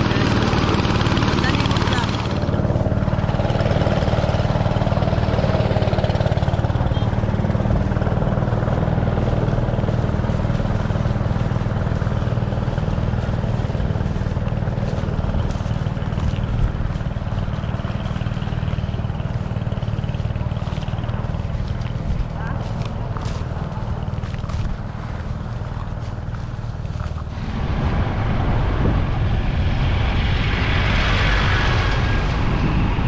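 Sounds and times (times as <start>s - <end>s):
machinery engine drone: 0.0s - 33.0s
mechanical rushing noise: 0.0s - 33.0s.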